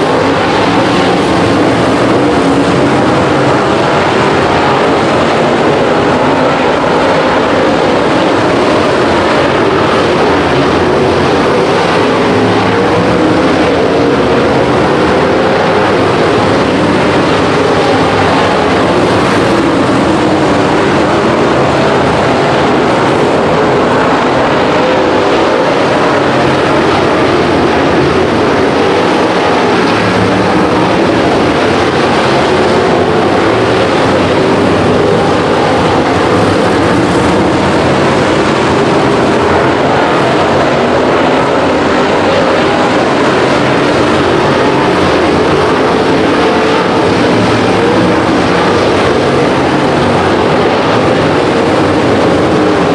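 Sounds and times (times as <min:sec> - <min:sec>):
race car engines droning: 0:00.0 - 0:52.9.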